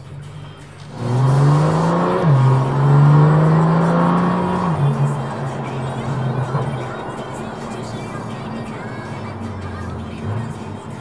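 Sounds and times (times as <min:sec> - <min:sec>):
car engine accelerating hard: 0:00.8 - 0:11.0.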